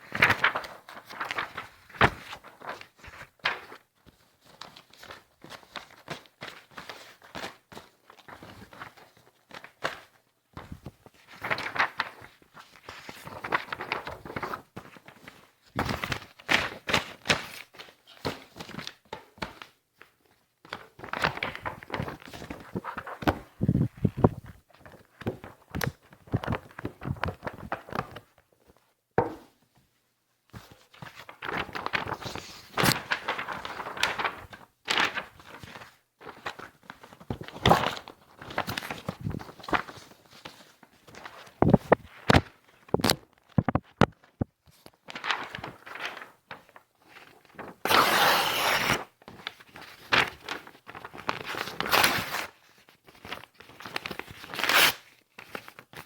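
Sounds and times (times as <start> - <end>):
paper rustling and crinkling: 0.0 - 29.9, 30.5 - 56.0.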